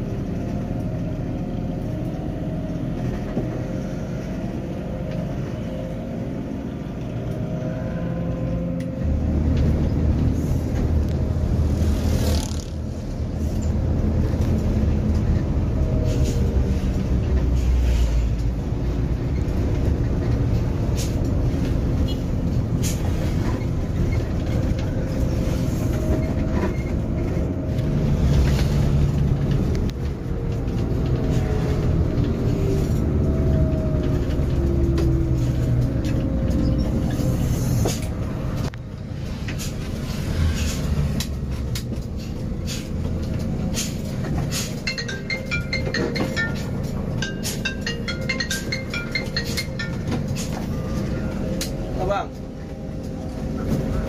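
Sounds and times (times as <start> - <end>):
coach diesel engine: 0.0 - 54.0
road noise: 0.0 - 54.0.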